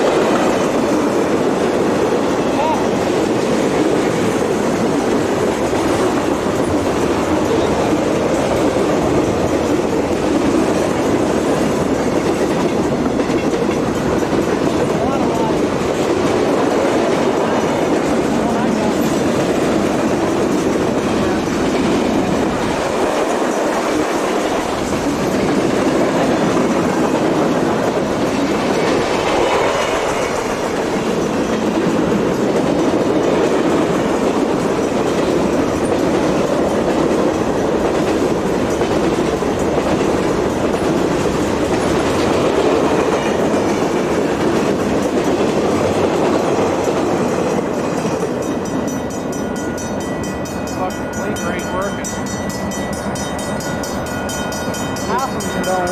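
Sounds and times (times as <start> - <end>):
freight train wheels on rail: 0.0 - 55.9.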